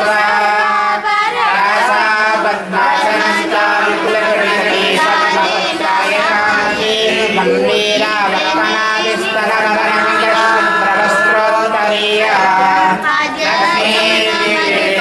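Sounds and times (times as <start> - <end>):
group singing devotional songs: 0.0 - 15.0.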